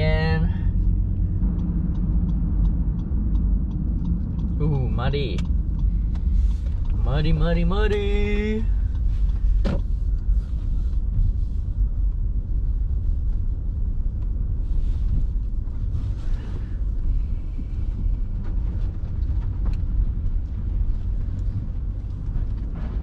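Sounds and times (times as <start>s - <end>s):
truck engine and tyres rumbling: 0.0s - 23.0s.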